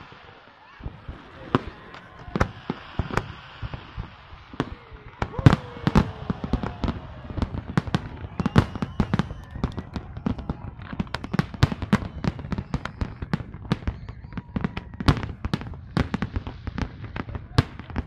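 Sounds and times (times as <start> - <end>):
fireworks bangs and cracks: 0.0 - 18.0.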